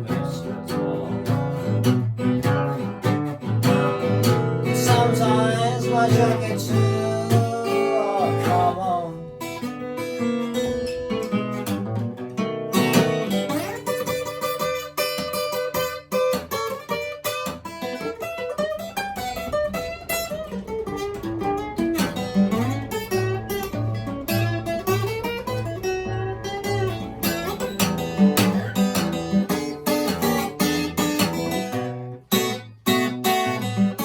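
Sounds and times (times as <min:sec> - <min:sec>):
fingerpicked acoustic blues guitar: 0:00.0 - 0:34.0.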